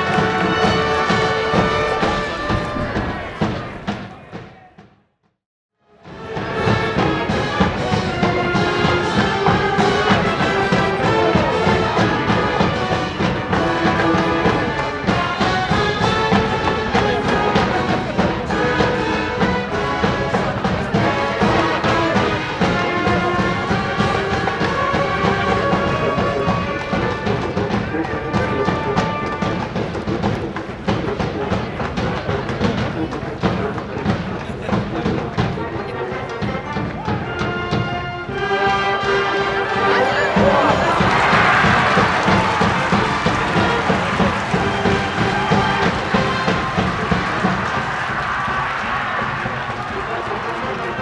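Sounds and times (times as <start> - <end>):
brass band playing: 0.0 - 4.4, 6.0 - 51.0
drums: 0.0 - 5.1, 5.9 - 51.0.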